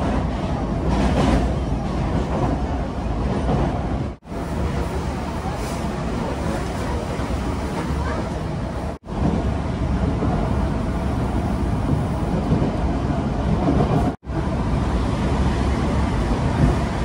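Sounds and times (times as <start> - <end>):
train rumbling from inside carriage: 0.0 - 17.0.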